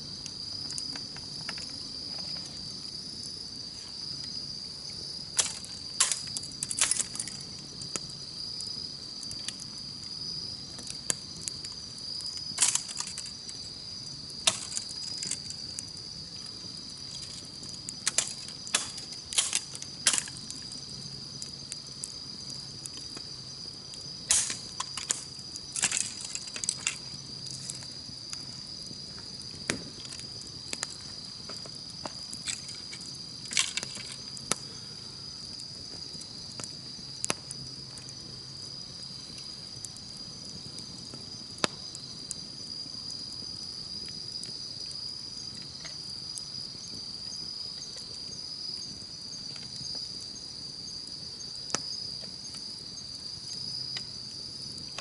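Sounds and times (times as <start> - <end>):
campfire crackling and popping: 0.0 - 55.0
insects chirring: 0.0 - 55.0.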